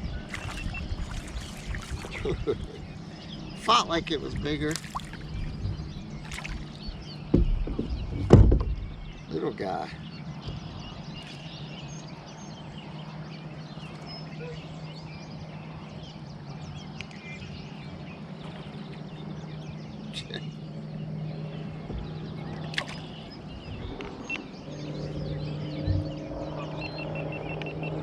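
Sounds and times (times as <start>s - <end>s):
steady low drone: 0.0s - 28.0s.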